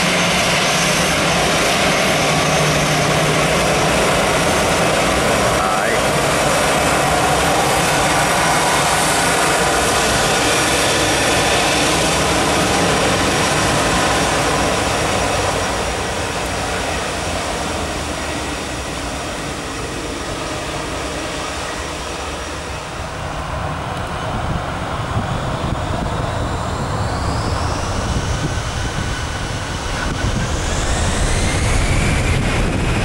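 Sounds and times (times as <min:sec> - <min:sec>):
jet engines at high power: 0:00.0 - 0:33.0.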